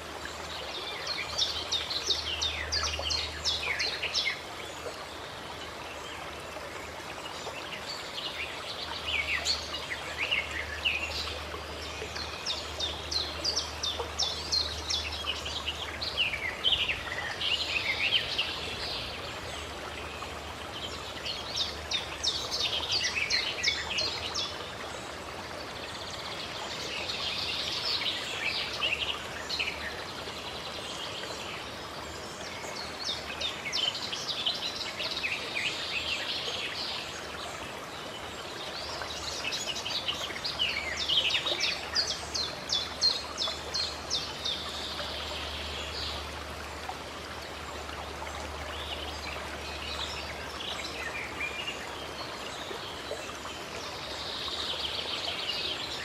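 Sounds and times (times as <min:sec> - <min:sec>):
running water: 0:00.0 - 0:56.0
songbirds chirping: 0:00.0 - 0:56.0.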